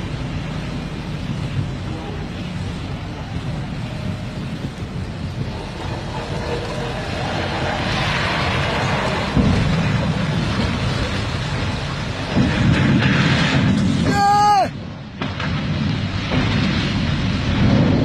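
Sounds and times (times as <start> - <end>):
dump truck diesel engine rumbling: 0.0 - 18.0
rushing noise: 0.0 - 18.0.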